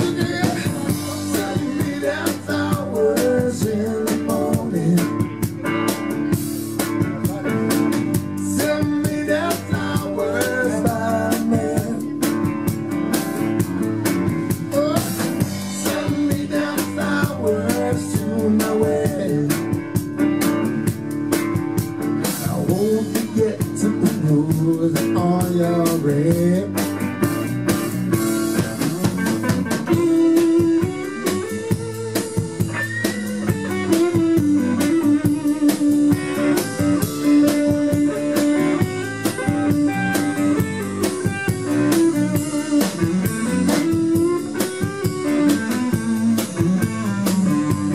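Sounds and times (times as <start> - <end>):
blues-rock band playing: 0.0 - 47.9
electric guitar lead: 0.0 - 47.9.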